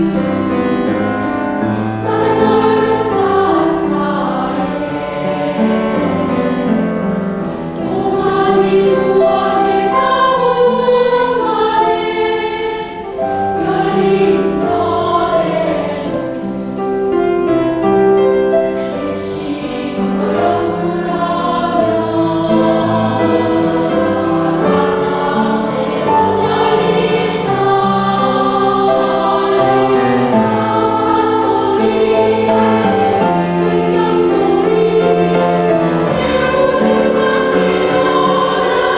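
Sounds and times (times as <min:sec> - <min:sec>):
choir singing a hymn: 0:00.0 - 0:38.9
piano accompaniment: 0:00.0 - 0:38.9.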